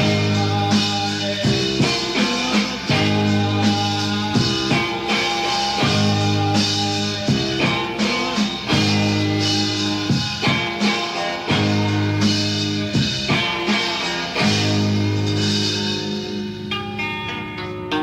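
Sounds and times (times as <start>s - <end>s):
drum hits: 0.0s - 16.2s
rock guitar chords: 0.0s - 18.0s.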